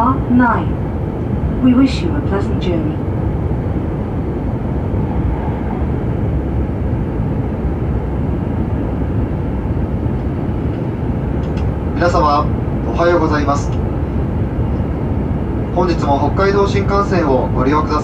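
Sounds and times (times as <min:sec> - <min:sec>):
train cabin rumble: 0:00.0 - 0:18.0.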